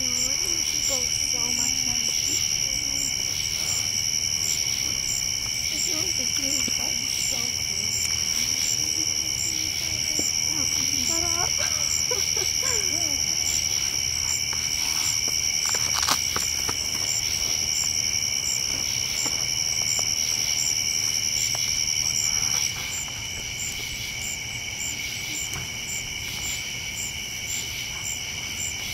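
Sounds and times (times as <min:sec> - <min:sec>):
crickets trilling: 0:00.0 - 0:28.9
high insect chirp pulsing: 0:00.0 - 0:28.9.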